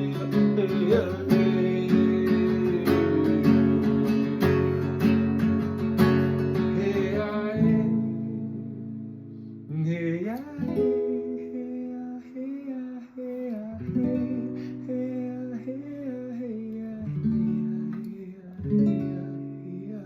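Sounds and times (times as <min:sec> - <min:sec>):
person singing wordless melody: 0:00.0 - 0:05.2, 0:06.5 - 0:08.4, 0:09.7 - 0:20.0
strummed acoustic guitar: 0:00.0 - 0:20.0.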